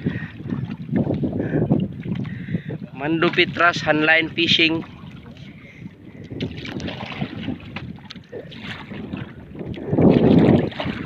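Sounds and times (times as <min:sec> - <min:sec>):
water lapping against boat: 0:00.0 - 0:11.0
wind buffeting microphone: 0:00.0 - 0:11.0.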